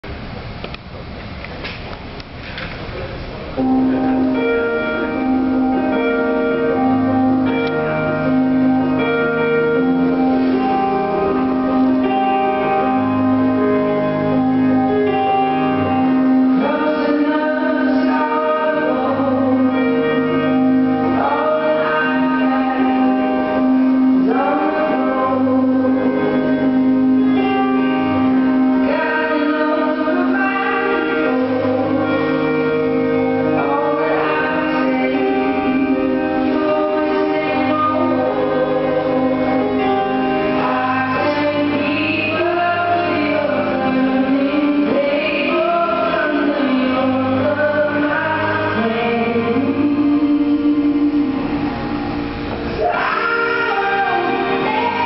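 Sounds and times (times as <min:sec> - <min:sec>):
person singing: 0:03.6 - 0:51.9, 0:52.7 - 0:55.0.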